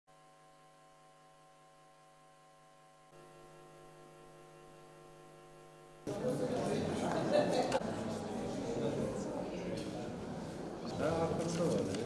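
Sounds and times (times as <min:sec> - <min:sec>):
faint electrical hum: 0:00.1 - 0:12.0.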